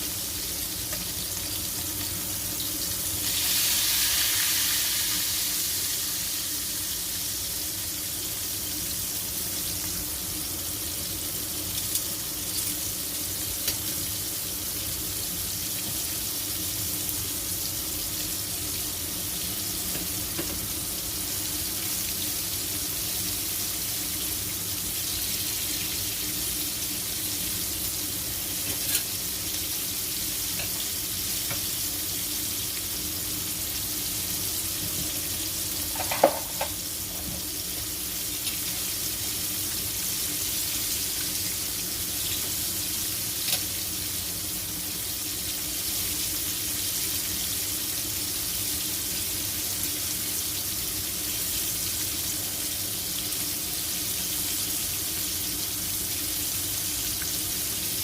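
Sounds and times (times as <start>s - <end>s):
food sizzling in a frying pan: 0.0s - 58.0s.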